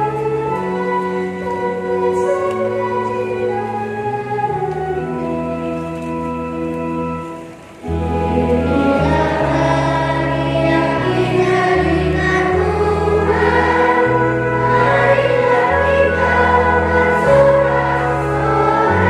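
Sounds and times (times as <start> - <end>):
children's choir singing a hymn: 0.0 - 19.0
organ bass notes: 0.0 - 19.0.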